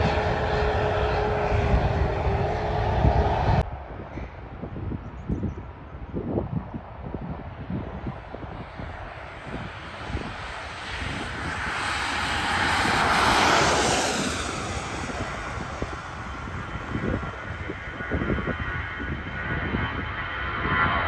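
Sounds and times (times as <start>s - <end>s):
jet engines roaring past: 0.0s - 21.0s.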